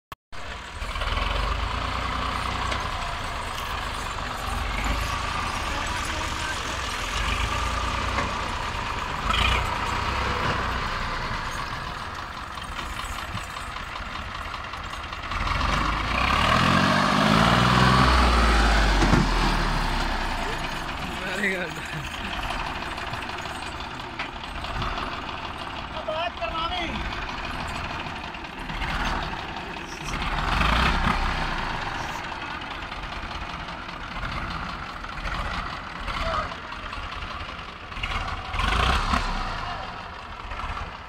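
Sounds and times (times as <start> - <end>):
tractor diesel engine rumbling: 0.3 - 41.0.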